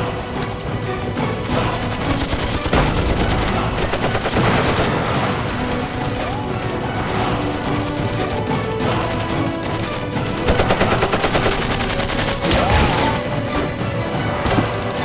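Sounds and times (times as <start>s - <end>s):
rapid dense gunfire: 0.0s - 13.5s
dramatic film score music: 0.0s - 15.0s.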